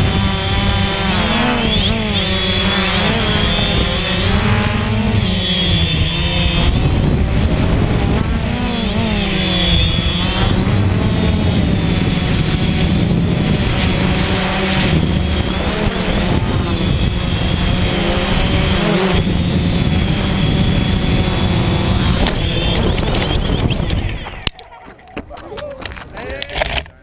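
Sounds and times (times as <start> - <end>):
drone propellers humming: 0.0 - 25.3.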